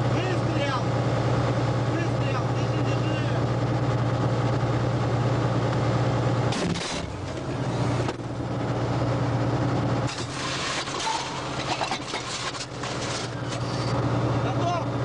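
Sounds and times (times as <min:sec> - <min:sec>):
tank diesel engine humming: 0:00.0 - 0:15.0.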